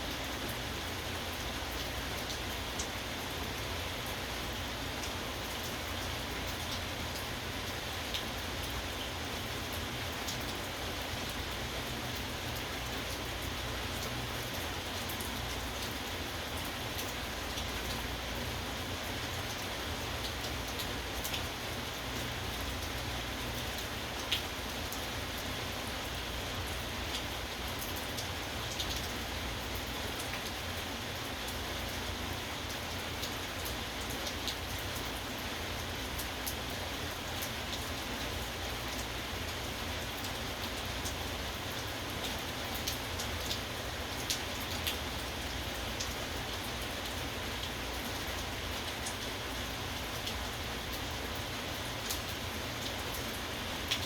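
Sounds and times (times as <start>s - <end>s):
rain drops ticking on hard surface: 0.1s - 54.0s.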